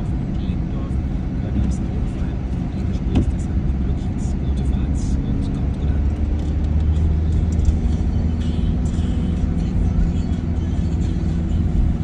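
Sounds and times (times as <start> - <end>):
car driving rumble inside cabin: 0.0 - 12.0
car radio music: 0.0 - 12.0.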